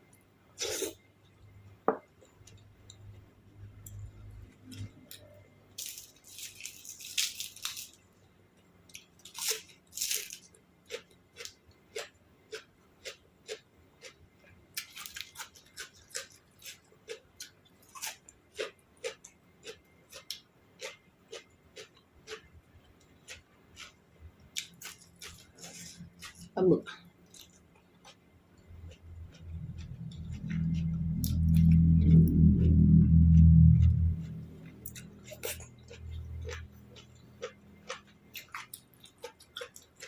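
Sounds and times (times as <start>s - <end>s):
person chewing crunchy food: 3.8s - 8.0s, 8.9s - 40.0s.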